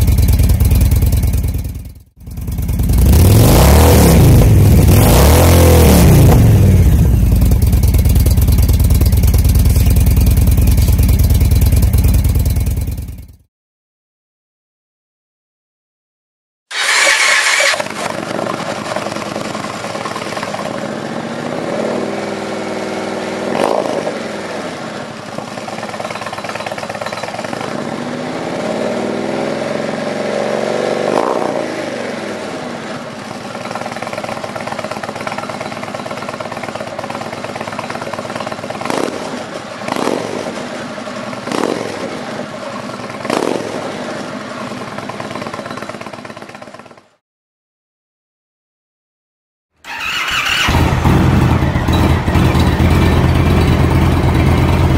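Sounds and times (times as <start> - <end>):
motorcycle engine idling and revving: 0.0 - 13.5, 16.7 - 47.2, 49.8 - 54.9.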